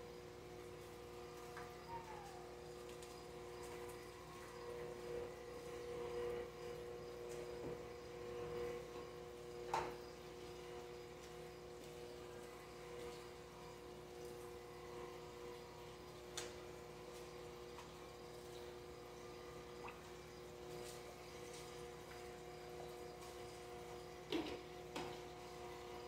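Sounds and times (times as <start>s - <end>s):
aquarium equipment hum: 0.0s - 26.0s.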